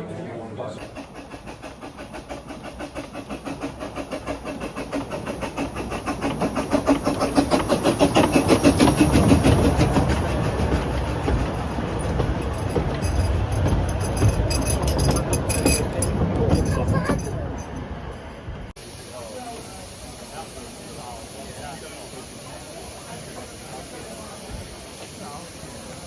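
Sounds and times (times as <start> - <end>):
train running past rumble: 0.0 - 26.0
steam locomotive exhaust beats: 0.7 - 26.0.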